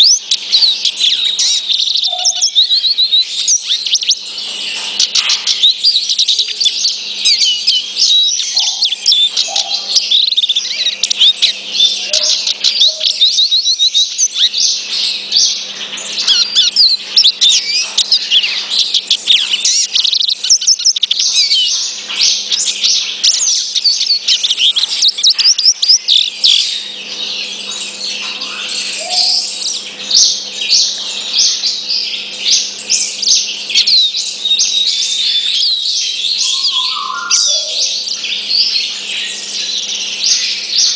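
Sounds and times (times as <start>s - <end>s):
finch twittering song: 0.0s - 40.9s.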